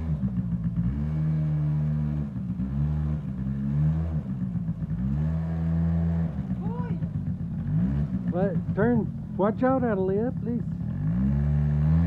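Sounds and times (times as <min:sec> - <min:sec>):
atv engine revving: 0:00.0 - 0:12.0.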